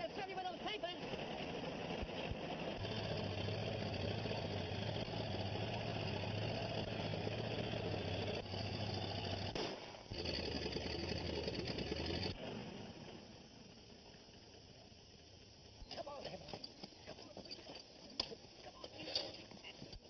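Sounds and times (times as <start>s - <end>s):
old vehicle engine running: 0.0s - 20.0s.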